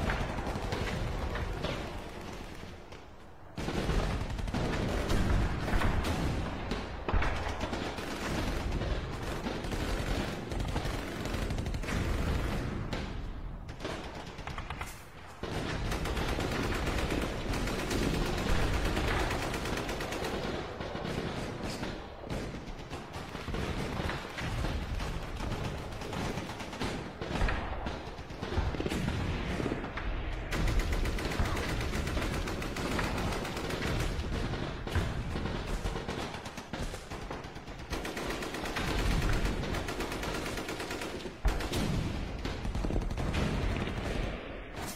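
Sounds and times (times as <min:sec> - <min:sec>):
rapid gunfire: 0:00.0 - 0:44.9.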